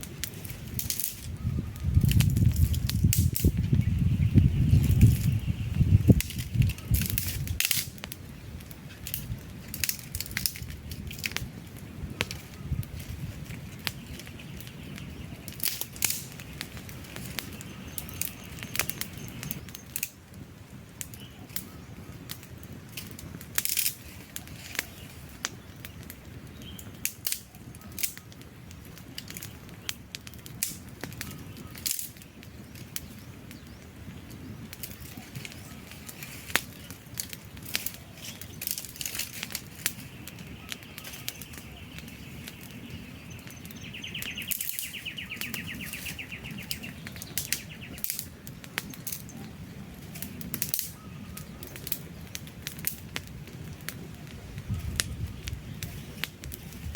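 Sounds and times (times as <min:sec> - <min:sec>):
burning logs popping and crackling: 0:00.0 - 0:56.9
flames rushing: 0:00.0 - 0:56.9.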